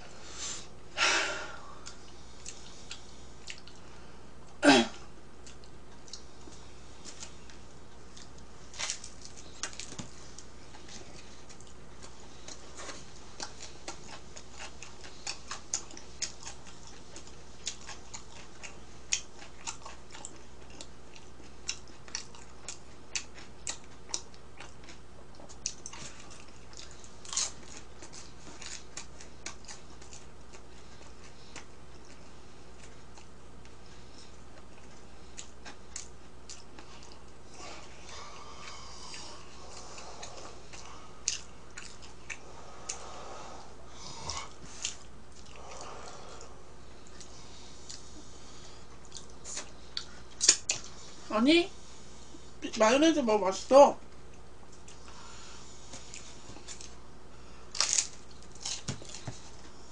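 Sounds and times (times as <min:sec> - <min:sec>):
low electrical hum: 0:00.0 - 0:59.9
person chewing: 0:01.8 - 0:04.6, 0:05.4 - 0:51.0, 0:57.7 - 0:59.8.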